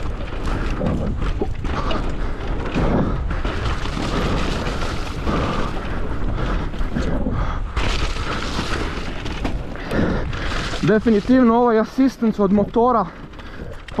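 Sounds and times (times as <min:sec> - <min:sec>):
bike rattling: 0:00.0 - 0:14.0
bike tyres rumbling on bumpy trail: 0:00.0 - 0:14.0.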